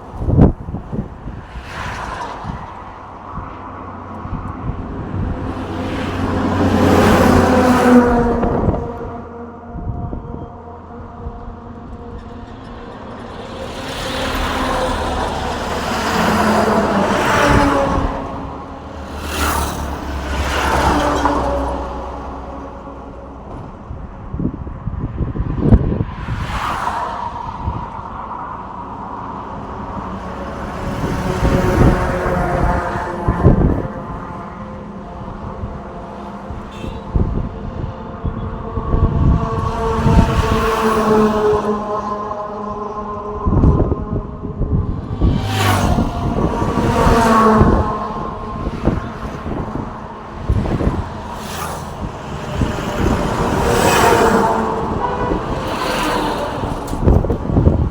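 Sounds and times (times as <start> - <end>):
vehicles passing: 0.0 - 57.9.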